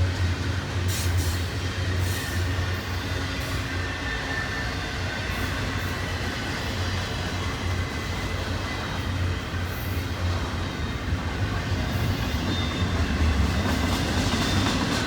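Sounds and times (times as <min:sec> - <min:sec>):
rumble of train wheels on rail: 0:00.0 - 0:15.0.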